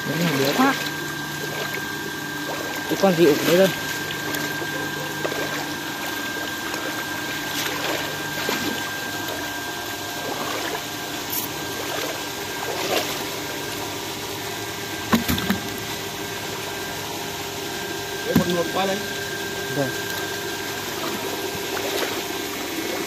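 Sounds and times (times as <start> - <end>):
moving water: 0.0 - 23.0
water pump whining: 0.0 - 23.0.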